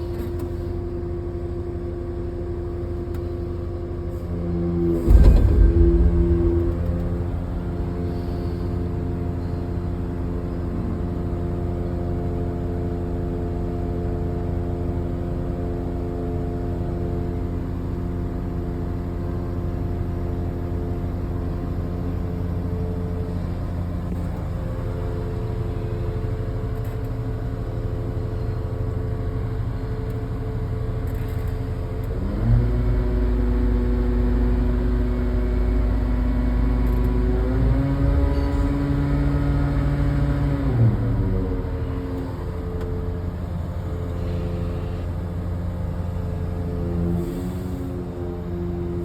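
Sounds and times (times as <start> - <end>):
crane diesel engine idling and revving: 0.0 - 49.0.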